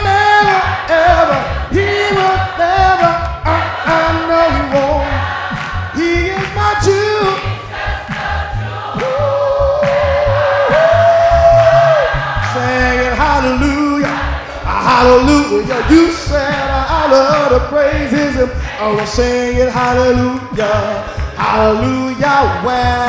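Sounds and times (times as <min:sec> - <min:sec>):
man singing gospel into microphone: 0:00.0 - 0:07.7, 0:08.9 - 0:23.0.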